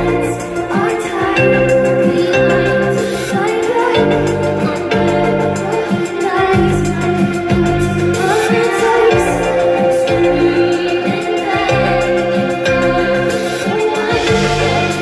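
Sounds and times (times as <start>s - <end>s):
organ-like keyboard chords: 0.0s - 15.0s
repeating bass line: 0.0s - 15.0s
steady beat: 0.0s - 15.0s.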